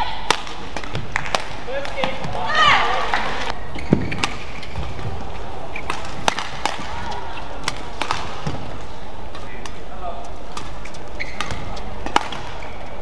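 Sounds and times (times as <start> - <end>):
racket hitting shuttlecock: 0.0 - 9.8, 10.5 - 12.9
hall background noise: 0.0 - 13.0.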